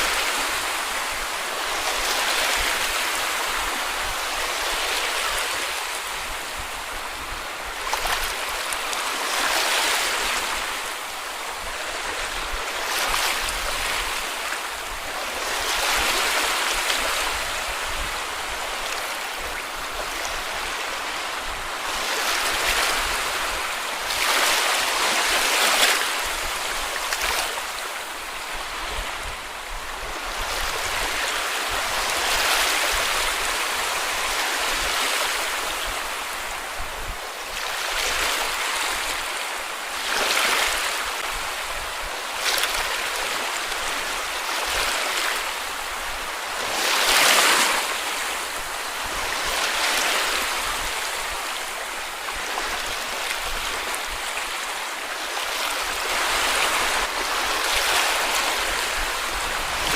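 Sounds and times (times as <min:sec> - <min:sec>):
sea waves washing onto beach: 0:00.0 - 0:59.9.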